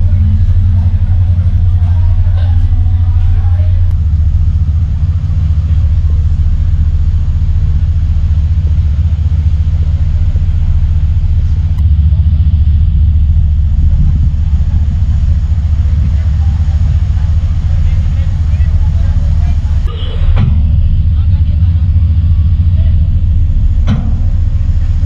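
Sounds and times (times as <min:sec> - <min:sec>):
ferry engines rumbling: 0:00.0 - 0:25.0.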